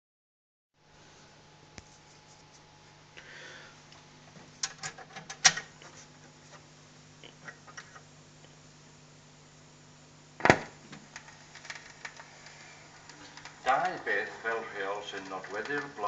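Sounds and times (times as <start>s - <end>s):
record player hum: 0.8s - 16.0s.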